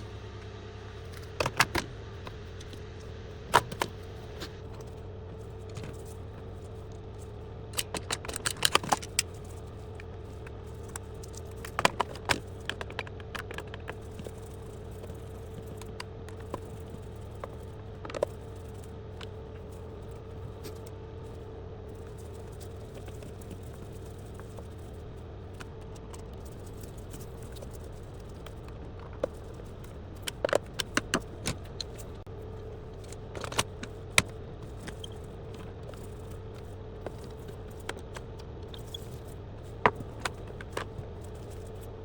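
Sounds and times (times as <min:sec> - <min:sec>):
faint steady hum: 0:00.0 - 0:42.0
plastic parts clicking and rattling: 0:01.0 - 0:02.8, 0:03.4 - 0:42.0.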